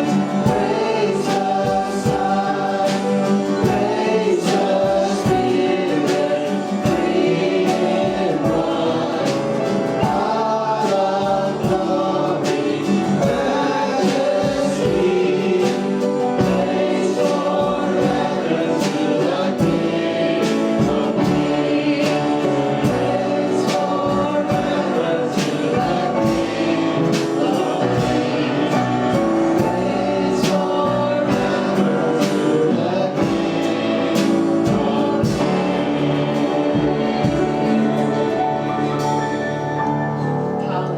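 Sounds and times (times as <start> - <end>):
group singing gospel song: 0.0 - 40.9
instrumental backing with beat: 0.0 - 40.9.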